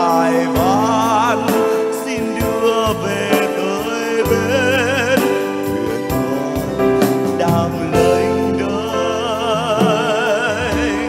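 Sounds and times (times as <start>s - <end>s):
instrumental backing: 0.0s - 11.0s
man singing a hymn: 0.0s - 11.0s.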